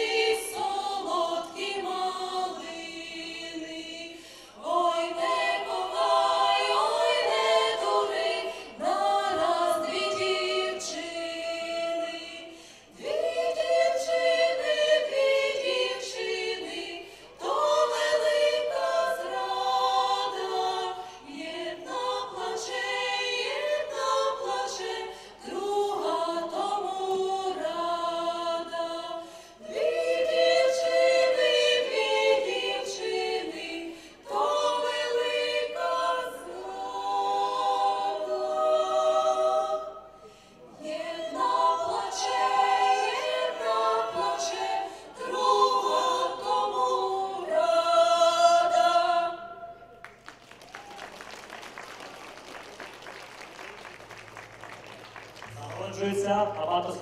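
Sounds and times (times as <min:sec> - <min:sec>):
women singing in harmony: 0:00.0 - 0:50.0.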